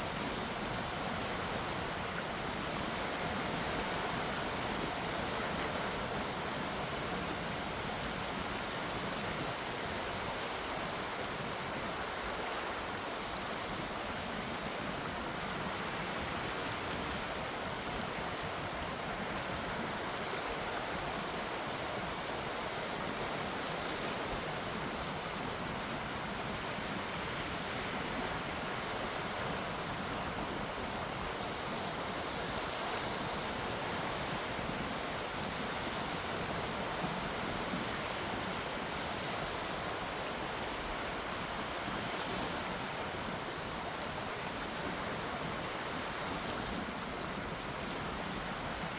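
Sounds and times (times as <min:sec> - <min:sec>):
gentle sea waves washing: 0:00.0 - 0:48.9.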